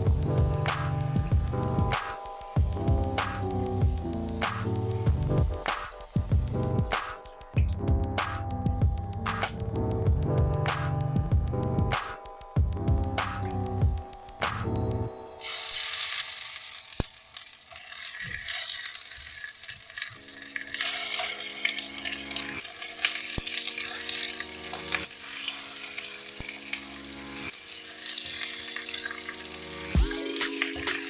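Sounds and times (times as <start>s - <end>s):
chicken sizzling in hot oil: 0.0s - 7.6s, 13.3s - 31.0s.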